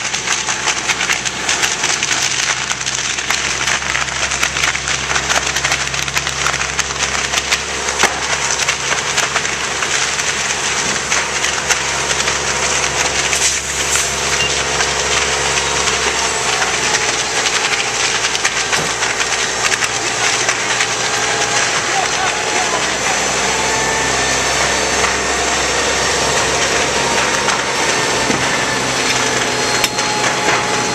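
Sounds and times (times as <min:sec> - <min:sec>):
fire crackling and popping: 0:00.0 - 0:30.9
fire engine humming: 0:00.0 - 0:30.9
fire hissing: 0:00.0 - 0:30.9.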